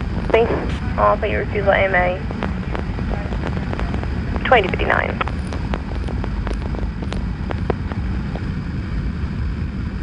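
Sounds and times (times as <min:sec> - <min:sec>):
motorcycle engine rumble: 0:00.0 - 0:10.0
wind noise: 0:00.0 - 0:10.0.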